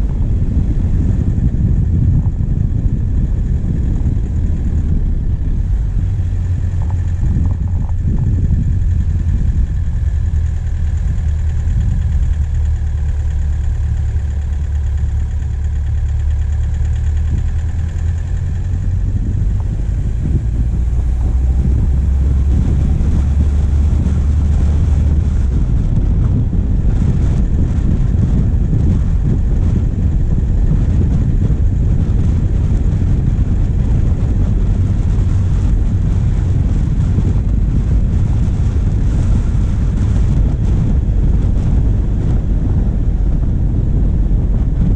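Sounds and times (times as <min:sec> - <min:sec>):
diesel engine driving: 0:00.0 - 0:44.9
rough rushing noise: 0:00.0 - 0:44.9.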